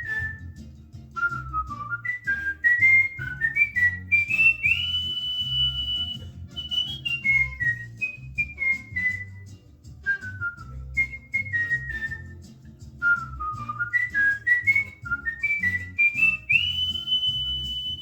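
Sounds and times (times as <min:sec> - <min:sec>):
cockatiel whistling a tune: 0:00.0 - 0:18.0.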